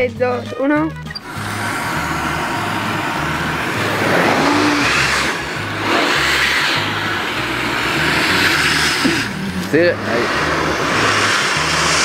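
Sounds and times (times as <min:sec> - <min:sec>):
vacuum cleaner suction: 0:01.2 - 0:12.0.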